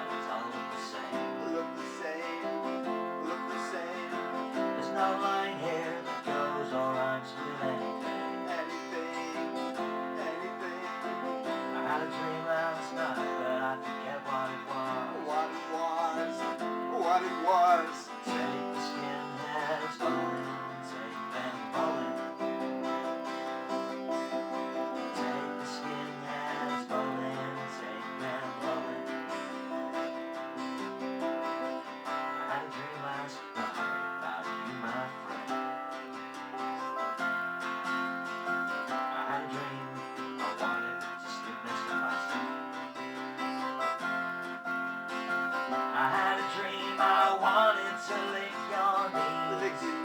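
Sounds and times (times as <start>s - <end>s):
small band playing: 0.0s - 50.0s
strummed acoustic guitar: 0.0s - 50.0s.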